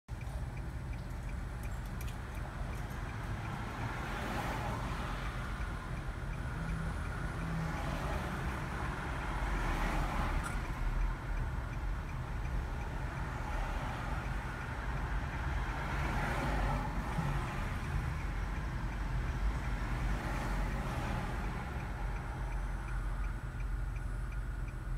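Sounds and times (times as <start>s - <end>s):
low rumble of road traffic: 0.1s - 24.9s
turn signal ticking: 0.1s - 24.9s.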